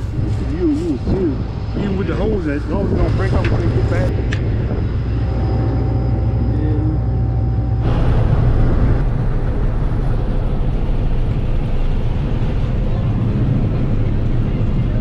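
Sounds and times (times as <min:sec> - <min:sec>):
farm machinery engine rumbling: 0:00.0 - 0:15.0
thin whine: 0:00.0 - 0:15.0.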